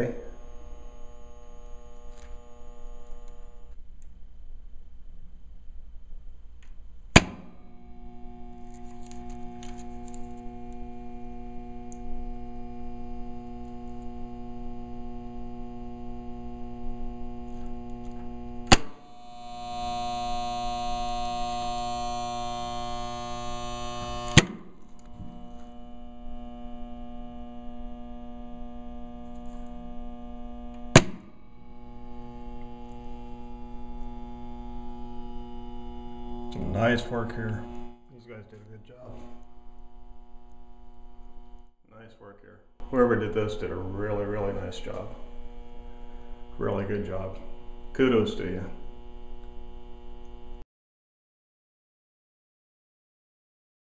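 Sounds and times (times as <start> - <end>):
electrical hum: 0.0 - 50.6.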